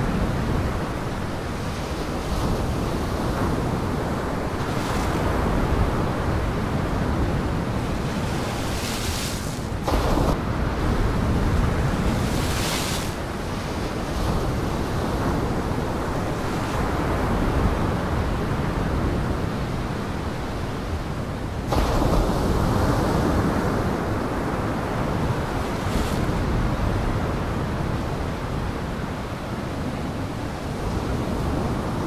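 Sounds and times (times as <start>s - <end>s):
waves breaking: 0.0s - 19.1s, 20.9s - 32.0s
wind rumbling on microphone: 0.0s - 32.0s.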